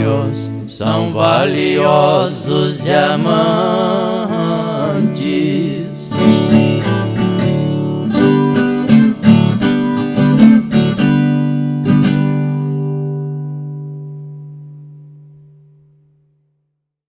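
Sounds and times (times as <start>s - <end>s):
guitar-like strings plucked and strummed: 0.0s - 16.6s.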